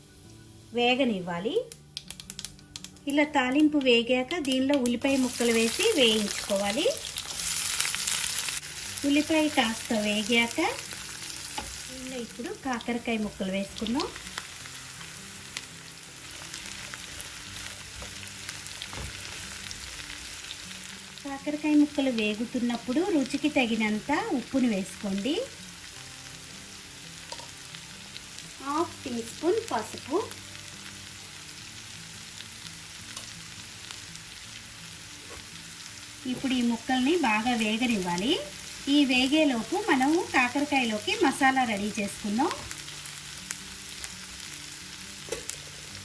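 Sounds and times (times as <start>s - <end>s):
vegetables sizzling in oil: 0.0s - 46.0s.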